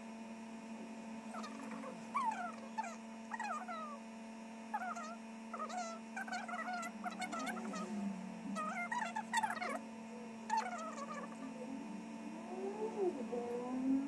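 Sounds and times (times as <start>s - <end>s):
steady low hum: 0.0s - 14.0s
animal whining calls: 1.3s - 4.0s, 4.7s - 14.0s.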